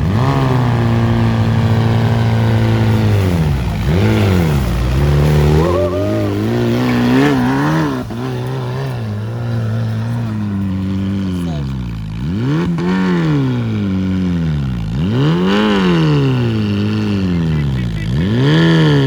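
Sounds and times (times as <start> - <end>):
off-road engine revving hard: 0.0 - 19.0.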